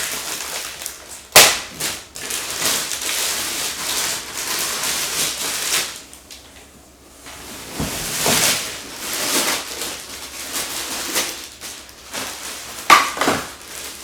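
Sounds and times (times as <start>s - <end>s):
packing material rustling: 0.0s - 6.4s, 7.4s - 14.0s.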